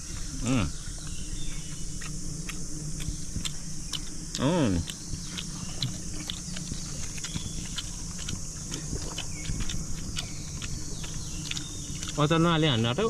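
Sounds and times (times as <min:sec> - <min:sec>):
high insect drone: 0:00.0 - 0:13.0
people chewing and eating: 0:00.0 - 0:13.0.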